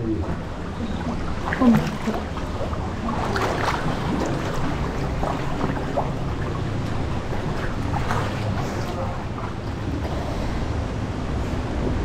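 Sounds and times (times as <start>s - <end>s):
swimmers splashing: 0.3s - 10.6s.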